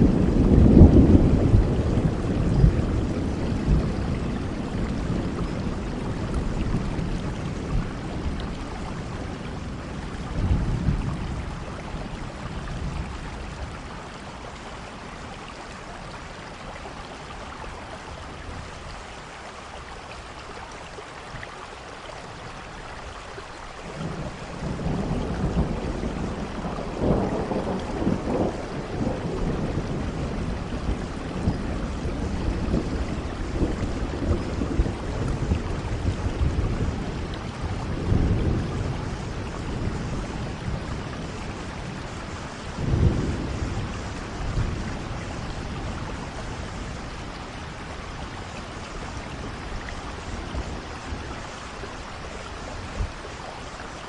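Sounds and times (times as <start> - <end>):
low rumbles of thunder: 0.0 - 20.0, 22.2 - 54.0
steady rain: 0.0 - 54.0.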